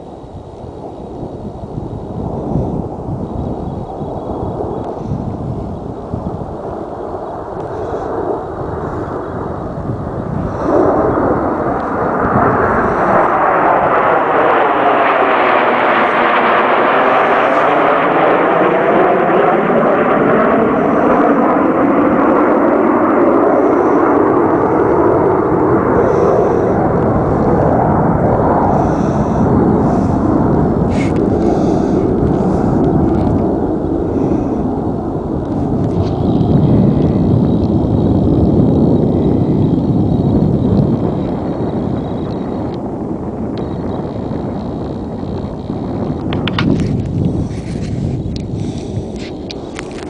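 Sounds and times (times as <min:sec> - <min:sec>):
jets flying past: 0:00.1 - 0:50.0.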